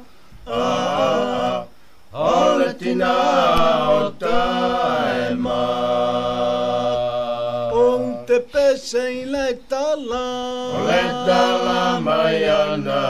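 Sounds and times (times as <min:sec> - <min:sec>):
men singing unaccompanied: 0:00.0 - 0:13.0.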